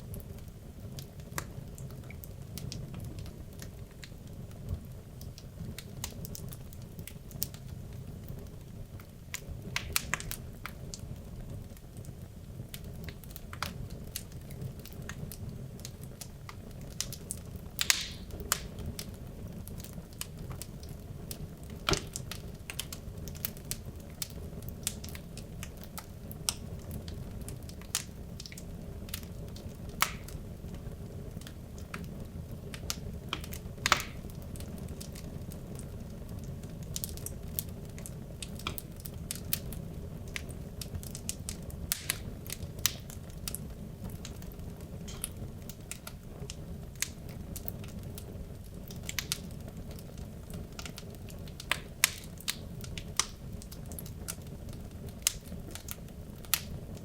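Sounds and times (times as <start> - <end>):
fire burning with crackles: 0.0 - 57.0.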